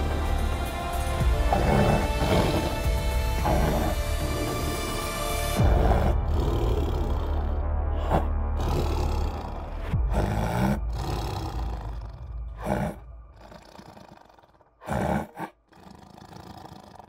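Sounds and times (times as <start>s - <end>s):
tiger roaring: 1.3s - 17.0s.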